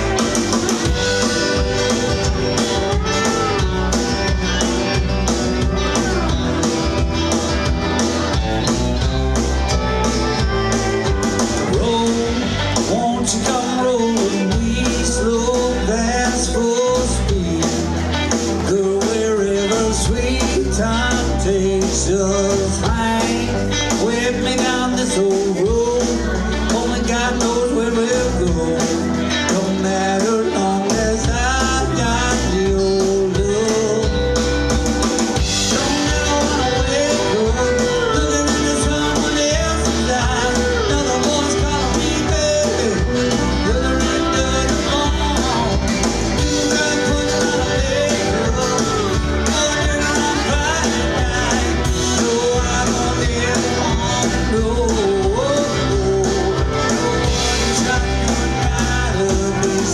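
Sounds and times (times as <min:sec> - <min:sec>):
country band with singer: 0:00.0 - 0:59.9.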